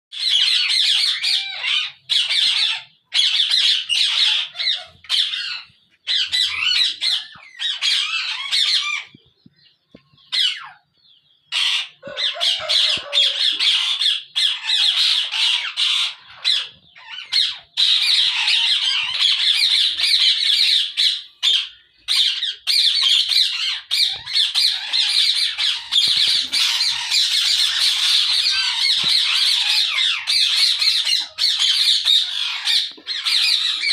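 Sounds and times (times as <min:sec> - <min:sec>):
parakeets screeching and chattering: 0:00.1 - 0:33.9.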